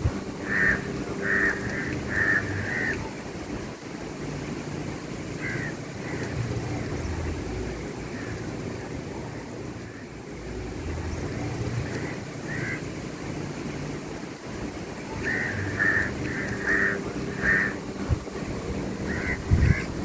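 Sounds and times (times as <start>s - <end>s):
bird calling: 0.0s - 3.4s, 5.3s - 10.3s, 10.9s - 13.4s, 14.7s - 20.0s
water noise: 0.0s - 20.0s
wind: 0.0s - 20.0s.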